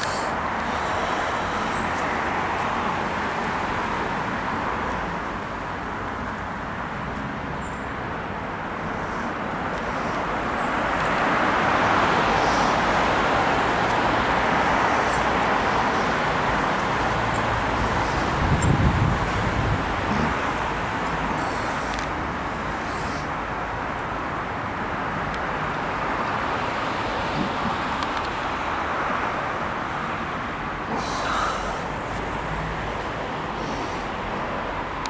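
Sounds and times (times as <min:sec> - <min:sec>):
steady rushing noise: 0:00.0 - 0:35.0.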